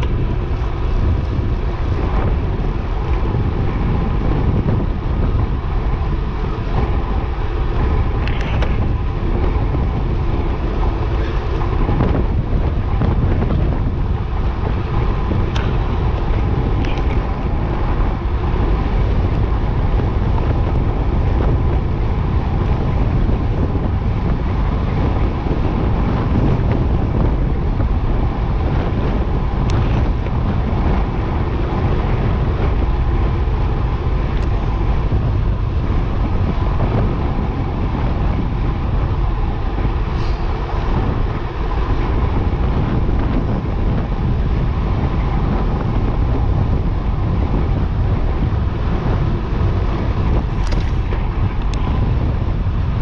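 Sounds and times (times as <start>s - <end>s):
bicycle tyres humming on asphalt: 0.0s - 53.0s
wind buffeting microphone: 0.0s - 53.0s.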